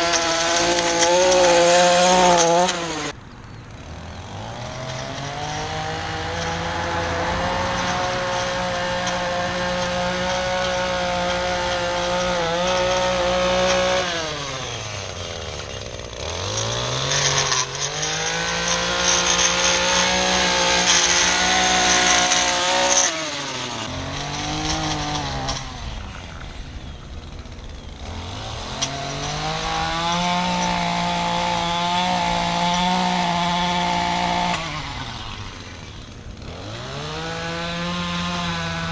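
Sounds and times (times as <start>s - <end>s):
two-stroke trimmer engine buzzing: 0.0s - 38.9s.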